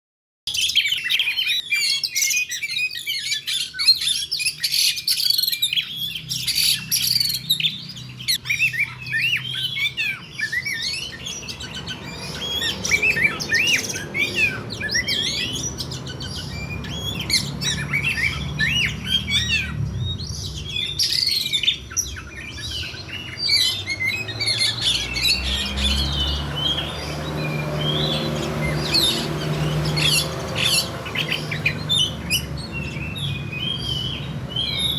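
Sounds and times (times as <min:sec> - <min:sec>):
bird chirps and squawks: 0:00.5 - 0:34.9.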